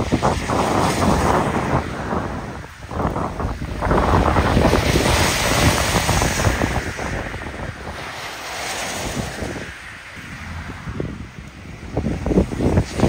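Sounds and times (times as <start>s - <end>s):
wind buffeting microphone: 0.0s - 13.0s
wind rushing through shrubs and trees: 0.0s - 13.0s.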